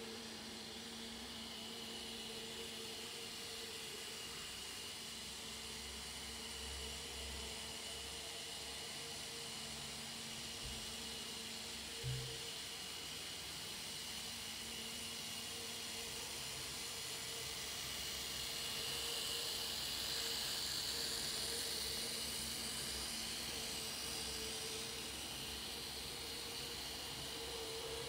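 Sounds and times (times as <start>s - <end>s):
model train motor whine: 0.0s - 28.0s
steady hum and hiss: 0.0s - 28.0s.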